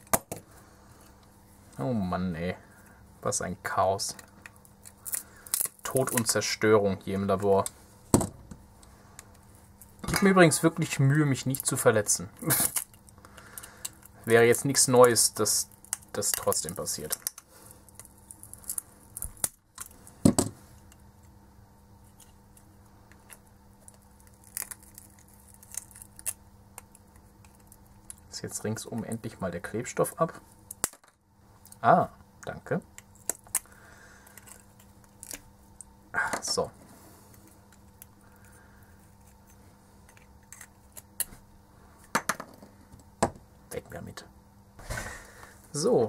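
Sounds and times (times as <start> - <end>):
low steady background noise: 0.0 - 46.0.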